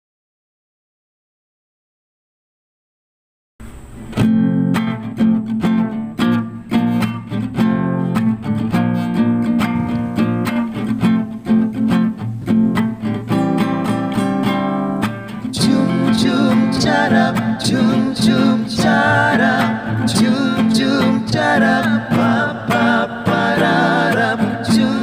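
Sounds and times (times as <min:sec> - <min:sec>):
acoustic guitar strumming chords: 0:03.6 - 0:25.0.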